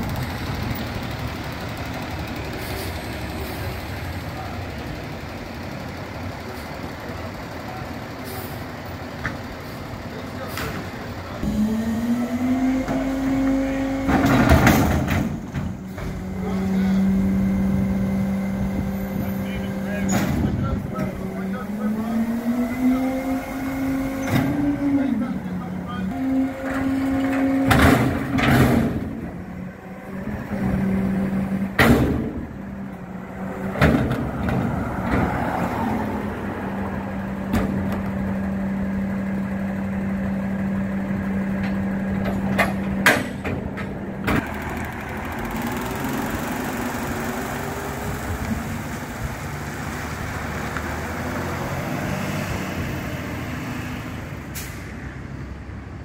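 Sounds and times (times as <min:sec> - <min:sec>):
diesel truck engine pulling away: 0:00.0 - 0:56.0.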